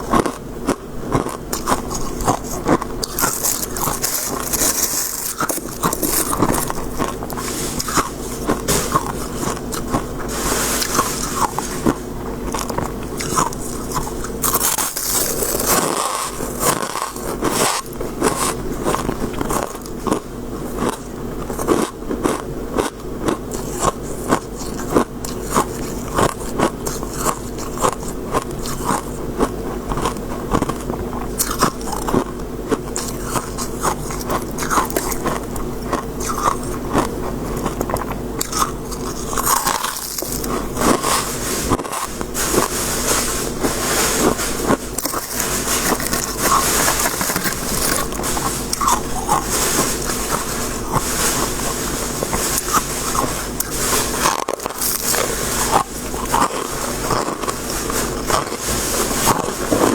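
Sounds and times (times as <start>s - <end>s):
biting and chewing frost: 0.0s - 59.9s.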